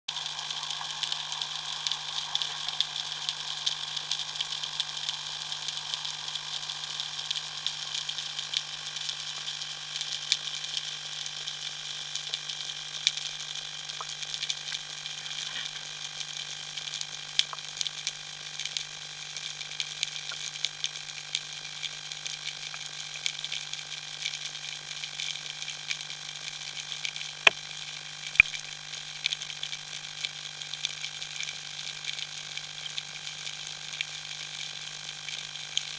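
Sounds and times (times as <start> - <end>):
low underwater hum: 0.1 - 35.9
underwater crackle of clicks: 0.2 - 35.9.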